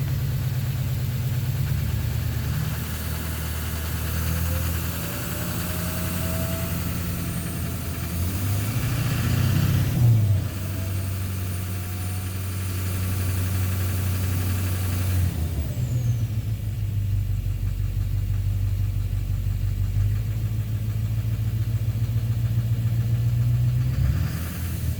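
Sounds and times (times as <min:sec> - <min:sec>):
diesel engine idling and revving: 0:00.0 - 0:24.9.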